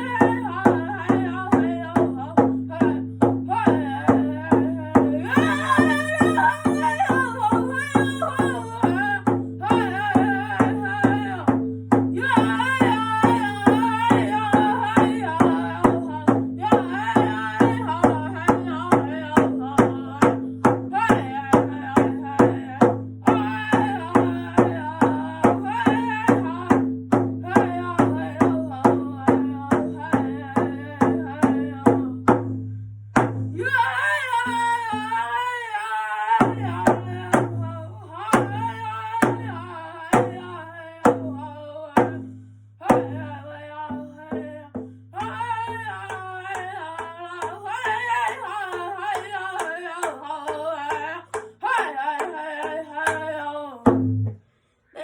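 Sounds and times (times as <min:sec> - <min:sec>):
powwow-style singing: 0:00.0 - 0:32.3, 0:33.5 - 0:53.9
steady drumbeat: 0:00.0 - 0:33.8, 0:36.4 - 0:41.4, 0:42.0 - 0:54.4.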